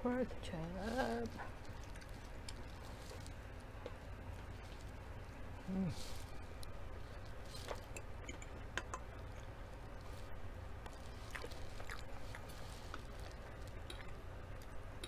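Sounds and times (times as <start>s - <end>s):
steady low hum: 0.0s - 15.0s
chewing and mouth noises: 0.6s - 5.4s, 6.0s - 15.0s.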